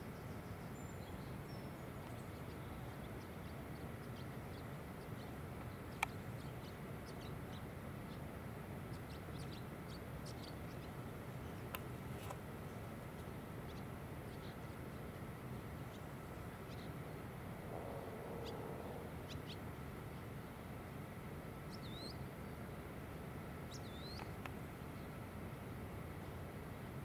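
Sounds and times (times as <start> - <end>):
low background rumble: 0.1 - 27.0.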